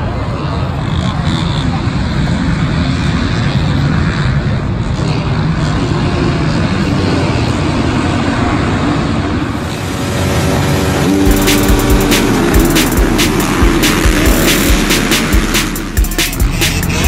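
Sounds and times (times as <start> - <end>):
motocross bikes revving: 0.1 - 17.0.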